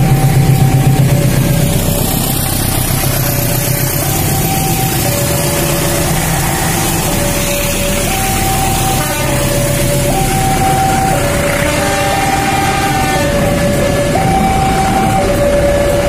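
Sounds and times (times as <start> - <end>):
diesel locomotive engine rumble: 0.0 - 16.0
level crossing alarm two-tone: 0.0 - 16.0
train coaches rolling: 0.0 - 16.0.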